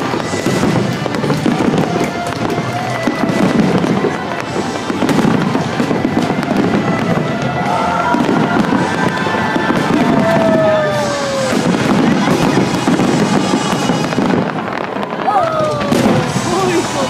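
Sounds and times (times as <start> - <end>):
firework whistles: 0.0 - 17.0
fireworks crackling and booming: 0.0 - 17.0.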